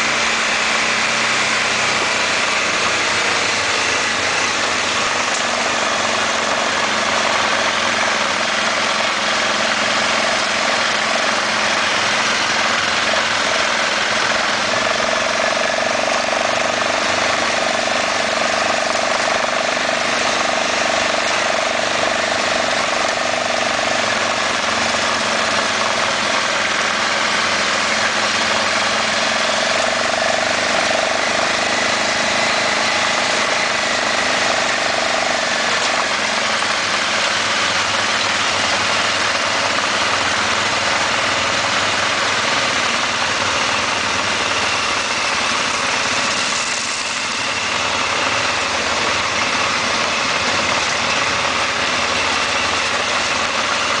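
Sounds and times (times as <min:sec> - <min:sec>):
motorcycle engine running: 0:00.0 - 0:54.0
tyres on gravel road: 0:00.0 - 0:54.0.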